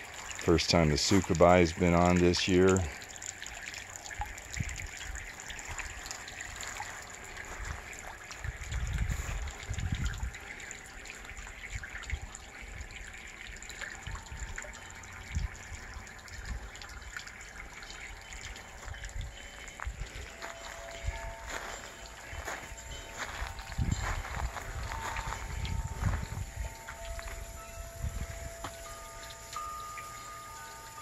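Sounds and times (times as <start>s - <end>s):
water trickling into stone bowl: 0.0s - 31.0s.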